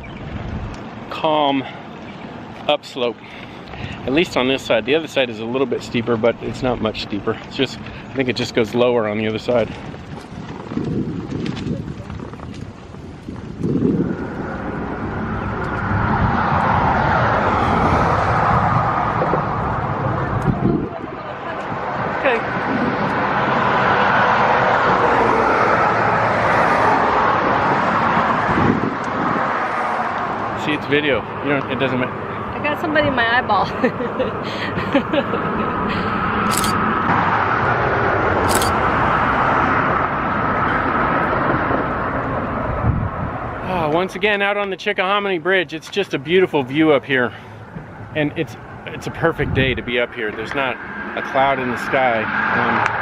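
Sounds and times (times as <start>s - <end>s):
car tyre and road noise: 0.0s - 53.0s.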